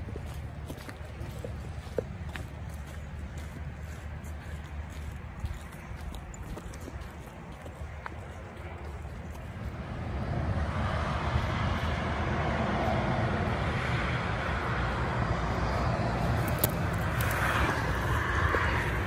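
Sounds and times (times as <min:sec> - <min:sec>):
motorway traffic rushing: 0:00.0 - 0:19.0.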